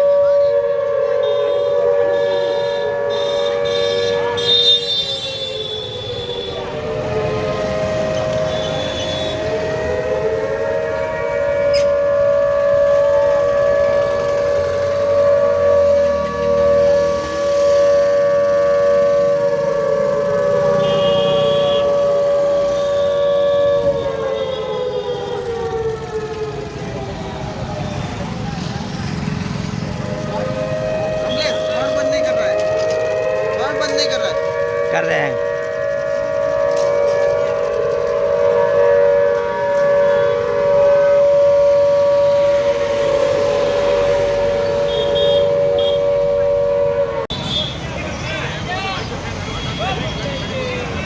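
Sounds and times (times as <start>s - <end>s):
alert siren wailing: 0.0s - 28.2s, 29.1s - 47.3s
second siren tone sliding lower: 5.4s - 29.2s, 30.1s - 47.3s.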